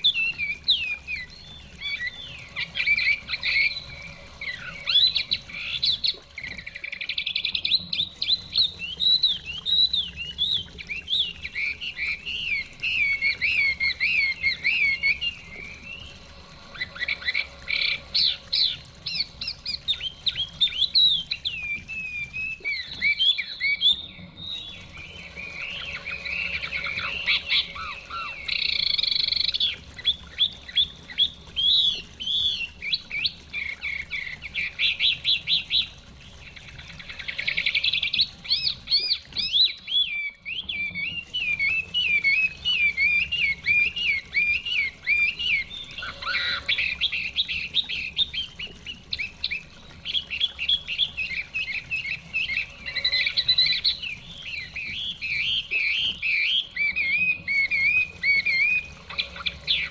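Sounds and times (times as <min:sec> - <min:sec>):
bird singing whistled trills: 0:00.0 - 0:59.9.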